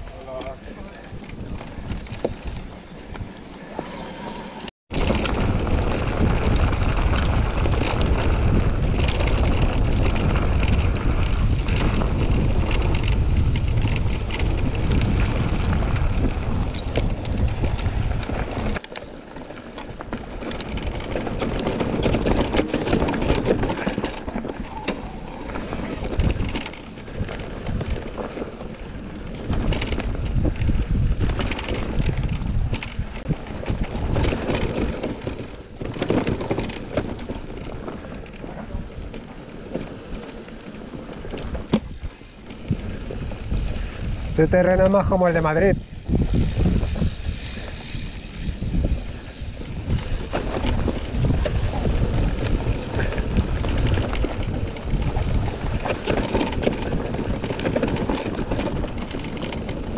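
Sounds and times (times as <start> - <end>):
bike clicking and rattling: 0.0 - 59.9
wind buffeting microphone: 0.0 - 59.9.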